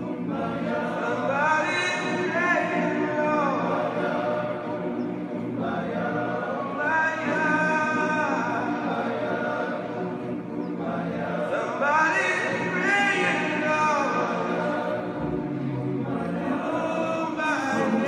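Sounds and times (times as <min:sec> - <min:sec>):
men's choir singing a cappella: 0:00.0 - 0:18.0.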